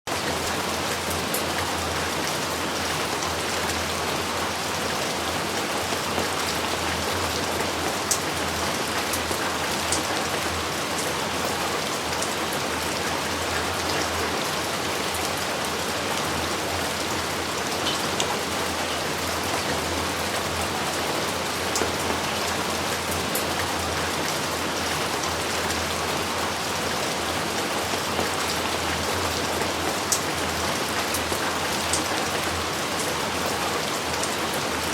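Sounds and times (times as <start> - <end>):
raindrops ticking close by: 0.1 - 34.9
steady rain: 0.1 - 34.9.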